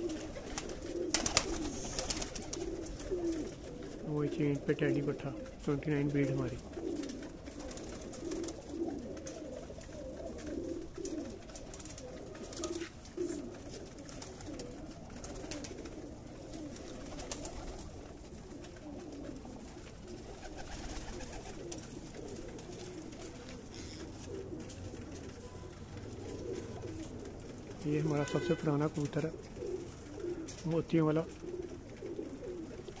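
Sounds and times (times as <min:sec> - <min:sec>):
pigeons cooing: 0:00.0 - 0:33.0.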